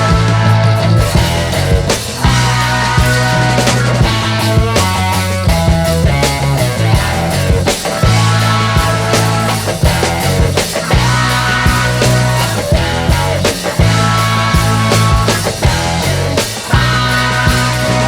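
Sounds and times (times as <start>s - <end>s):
rock music with heavy bass: 0.0s - 18.0s.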